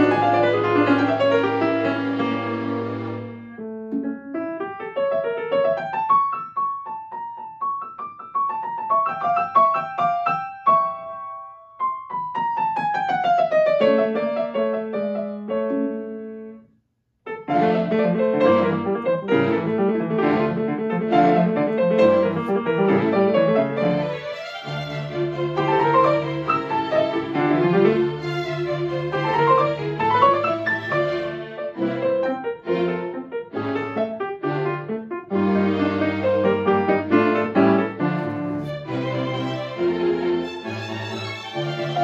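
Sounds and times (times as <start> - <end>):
grand piano playing: 0.0 - 16.7, 17.3 - 42.0.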